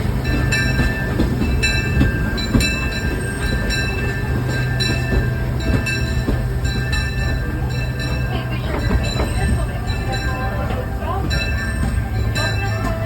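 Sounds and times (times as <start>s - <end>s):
train rumbling along track: 0.0s - 13.0s
wheels squealing on rails: 0.0s - 13.0s.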